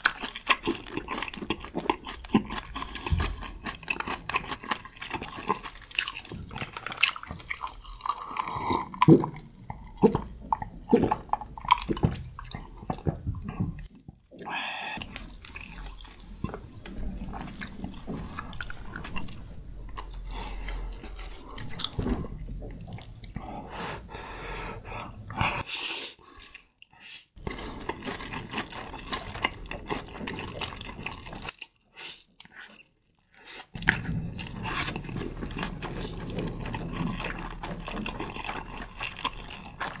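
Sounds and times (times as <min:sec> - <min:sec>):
chewing and slurping noodles: 0:00.0 - 0:14.4, 0:15.0 - 0:23.7, 0:26.3 - 0:40.0.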